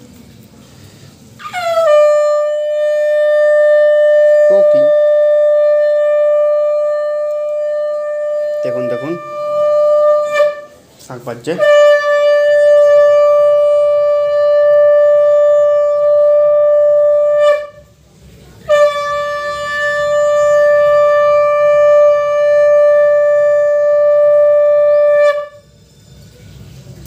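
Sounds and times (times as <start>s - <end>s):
conch shell blasts: 1.4s - 18.0s, 18.6s - 26.6s.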